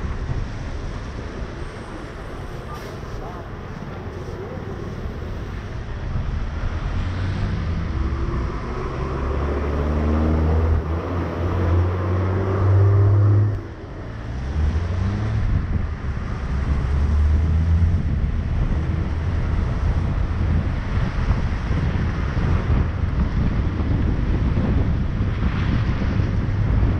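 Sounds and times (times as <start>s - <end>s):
tyres hissing on wet road: 0.0s - 22.7s
vehicle engine accelerating: 3.8s - 26.9s.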